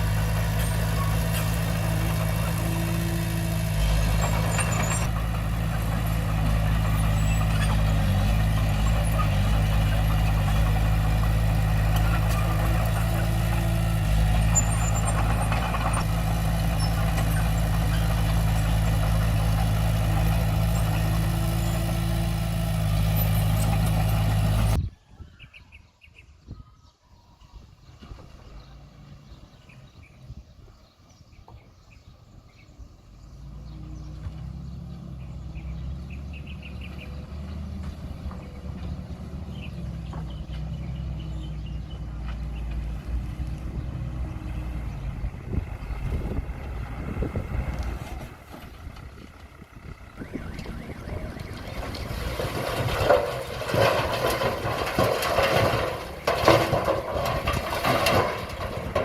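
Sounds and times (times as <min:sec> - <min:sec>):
diesel engine running: 0:00.0 - 0:24.8, 0:32.3 - 0:59.0.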